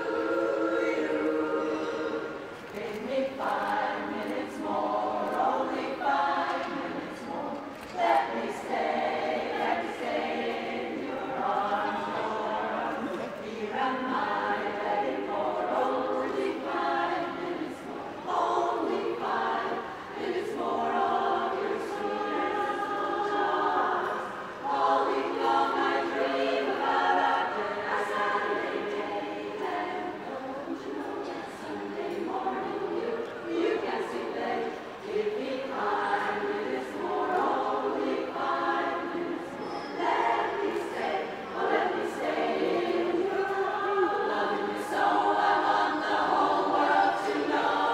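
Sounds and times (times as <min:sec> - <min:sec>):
women's choir singing: 0:00.0 - 0:47.9.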